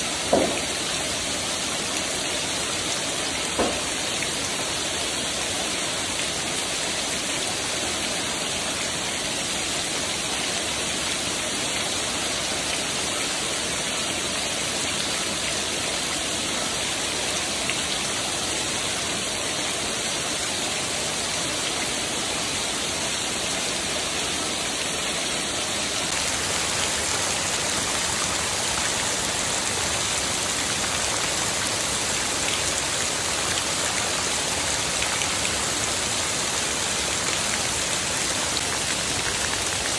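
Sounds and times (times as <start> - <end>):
heavy rain splashing on pavement: 0.0 - 39.9
water streaming off roof edge: 0.0 - 39.9.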